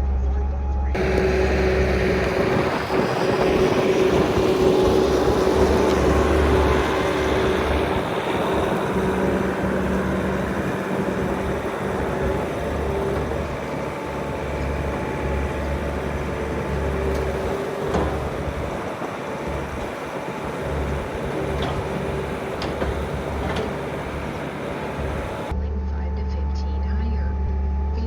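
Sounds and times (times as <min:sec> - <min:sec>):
diesel engine running: 0:00.9 - 0:25.6
short knocks: 0:01.0 - 0:25.5.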